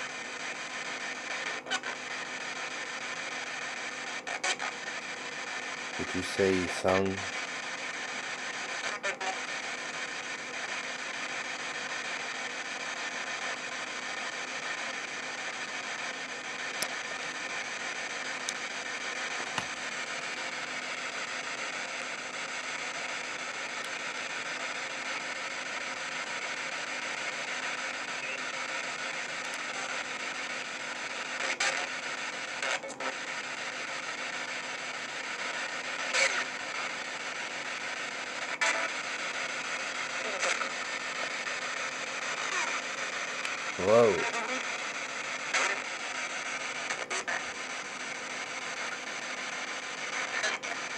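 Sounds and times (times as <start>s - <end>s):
radio static hiss: 0.0s - 50.9s
short static bursts: 0.0s - 50.9s.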